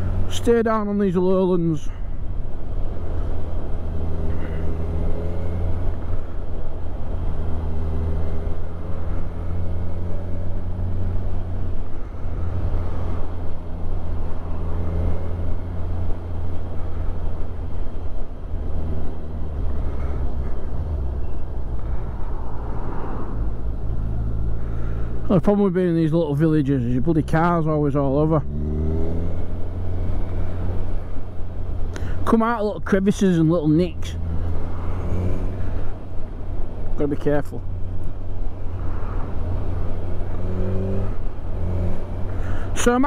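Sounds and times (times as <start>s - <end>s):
motorcycle engine cruising: 0.0s - 43.0s
wind and road noise: 0.0s - 43.0s.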